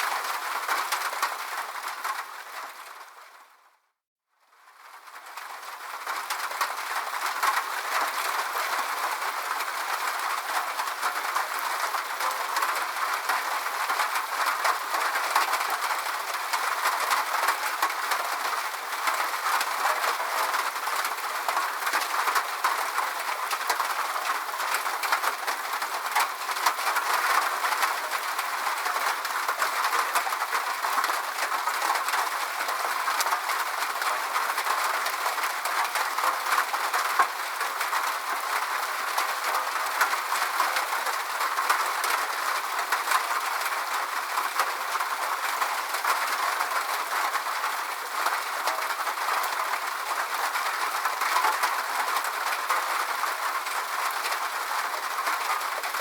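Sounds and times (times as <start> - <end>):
steady rain: 0.0 - 3.8, 4.4 - 56.0.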